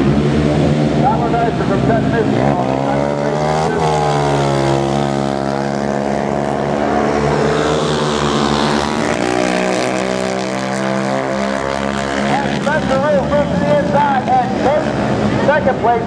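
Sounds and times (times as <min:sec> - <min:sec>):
quad engines revving hard: 0:00.0 - 0:16.0.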